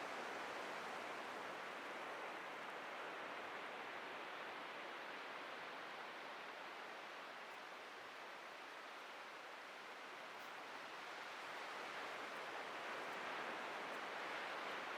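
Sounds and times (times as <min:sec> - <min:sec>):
surf washing on a beach: 0:00.0 - 0:14.9.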